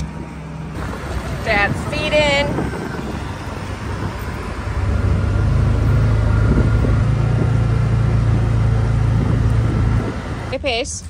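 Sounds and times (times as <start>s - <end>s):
utility vehicle engine droning: 0.0s - 11.0s.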